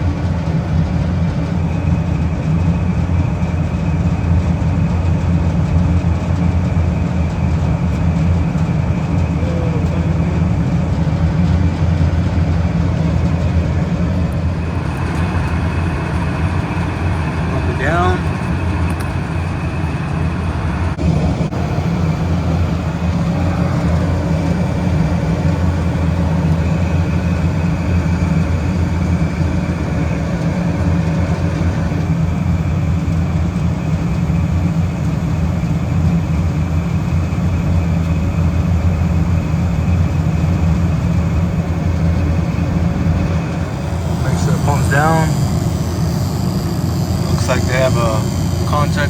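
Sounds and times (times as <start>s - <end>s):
refrigeration unit humming: 0.0s - 49.0s.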